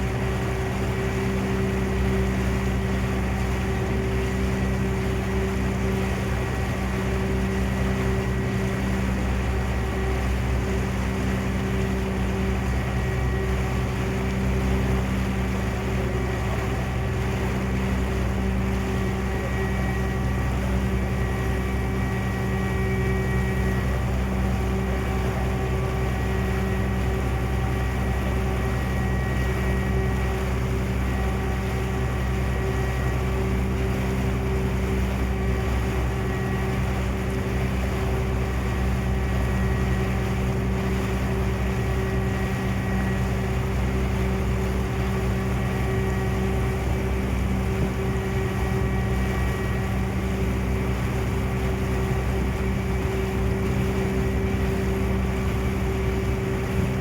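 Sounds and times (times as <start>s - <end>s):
ferry engine droning: 0.0s - 57.0s.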